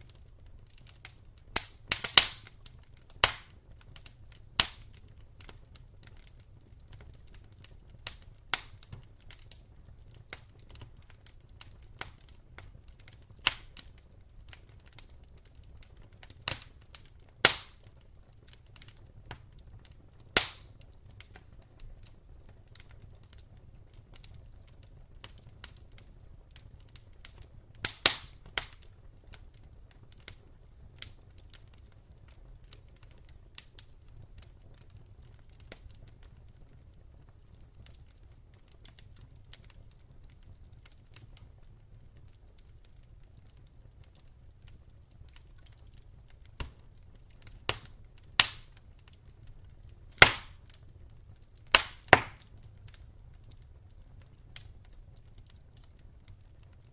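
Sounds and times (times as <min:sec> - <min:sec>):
campfire crackling: 0:00.0 - 0:56.9
low rumble of flames: 0:00.0 - 0:56.9
sharp pops of burning wood: 0:00.0 - 0:56.9.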